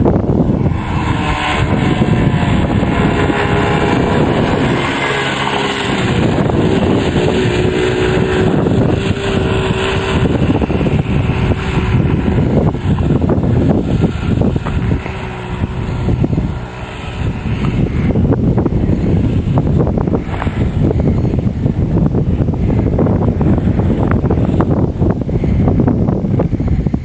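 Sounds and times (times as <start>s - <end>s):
quad bike engine running: 0.0s - 27.0s.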